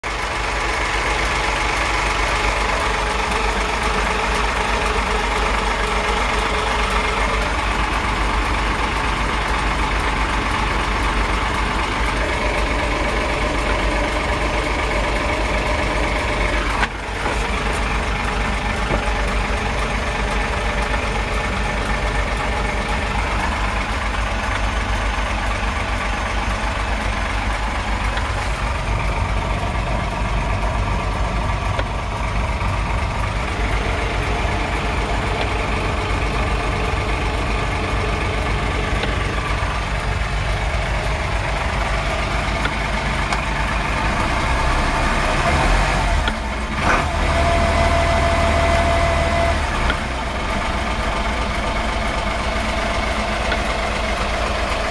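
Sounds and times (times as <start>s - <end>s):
boat engine idling: 0.0s - 54.9s.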